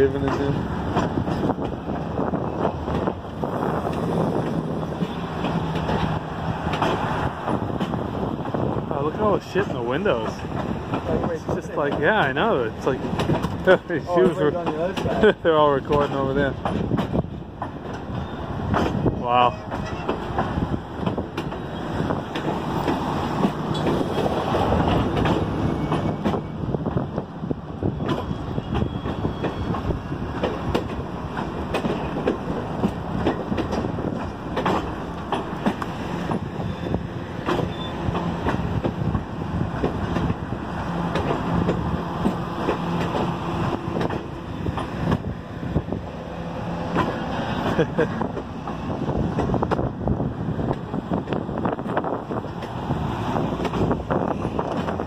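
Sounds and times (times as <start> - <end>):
railroad cars rumbling past: 0.0 - 55.0
wheels clicking over rail joints: 0.0 - 55.0.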